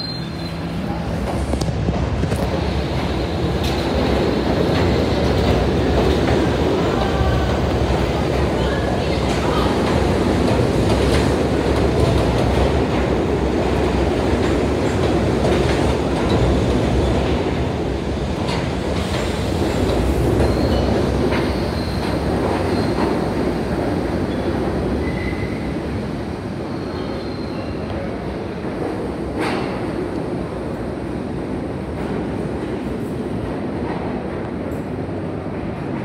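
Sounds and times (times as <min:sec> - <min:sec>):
subway train rumbling: 0:00.0 - 0:36.0.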